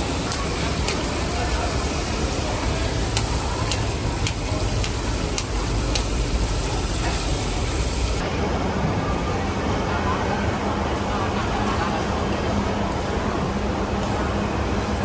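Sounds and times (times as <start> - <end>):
low market rumble: 0.0 - 15.0.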